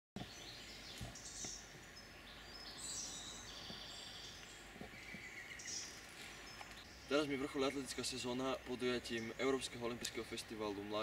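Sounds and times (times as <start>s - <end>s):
bird chirps and trilling call: 0.3s - 9.7s.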